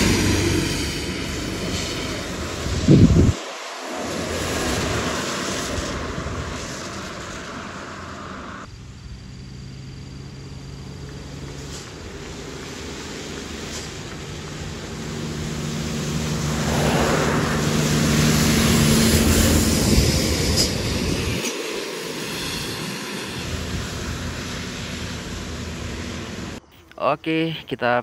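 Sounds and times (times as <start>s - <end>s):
tyre hiss on wet road: 0.0s - 8.7s, 10.8s - 26.6s
trucks passing engine drone: 0.0s - 27.7s.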